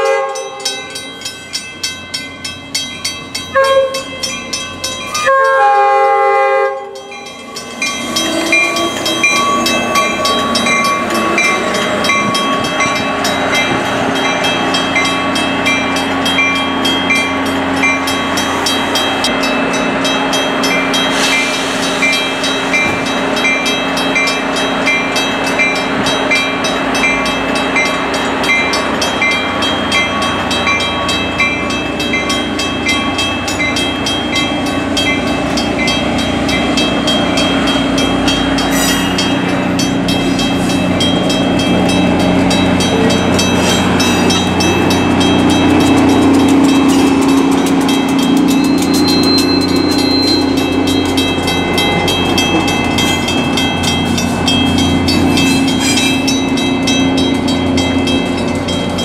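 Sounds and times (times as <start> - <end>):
rail rumble: 0.0 - 59.0
wheels clacking over rails: 6.8 - 59.0.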